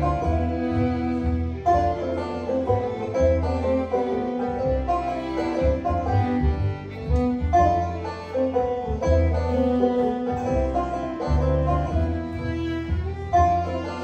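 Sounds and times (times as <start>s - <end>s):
banjos picking: 0.0s - 14.0s
double bass plucking: 0.0s - 14.0s
fiddle bowing: 0.0s - 14.0s.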